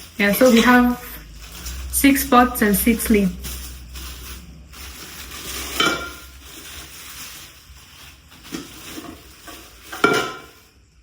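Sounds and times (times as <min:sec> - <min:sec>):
packaging rustling: 0:00.0 - 0:10.8.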